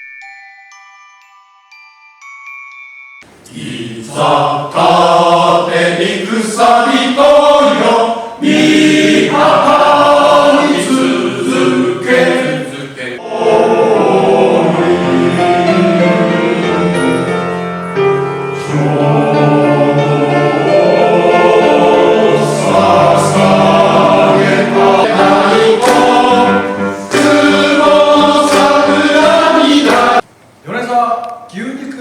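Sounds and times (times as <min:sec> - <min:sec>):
male choir singing: 0:03.4 - 0:17.6, 0:18.6 - 0:30.2.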